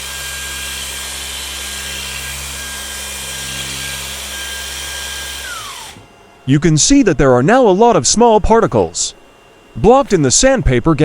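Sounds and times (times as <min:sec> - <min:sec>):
power sander humming: 0:00.0 - 0:11.0.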